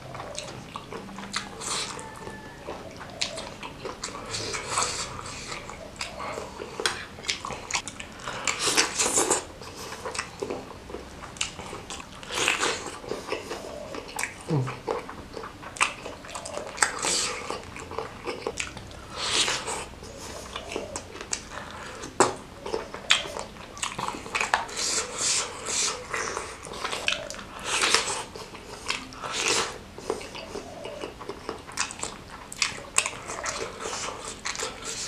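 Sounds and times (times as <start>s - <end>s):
biting and chewing: 0.0s - 35.0s
slurping: 0.0s - 35.0s.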